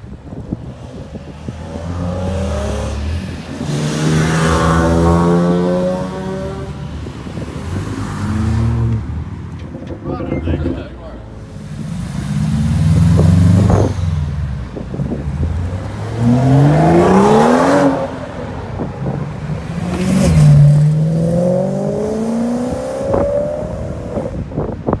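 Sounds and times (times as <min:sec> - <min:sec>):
car engines revving and accelerating: 0:00.0 - 0:25.0.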